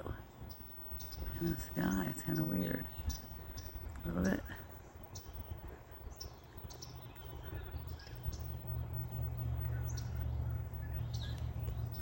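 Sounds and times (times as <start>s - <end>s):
birds chirping: 0.0s - 12.0s
low steady rumble: 0.0s - 12.0s.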